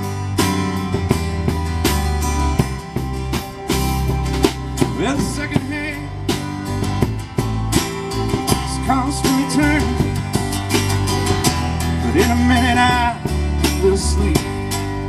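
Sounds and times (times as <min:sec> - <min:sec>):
acoustic guitar strumming: 0:00.0 - 0:15.0
drum kit steady beat: 0:00.0 - 0:15.0
resonator guitar: 0:00.0 - 0:15.0
upright bass: 0:00.0 - 0:15.0.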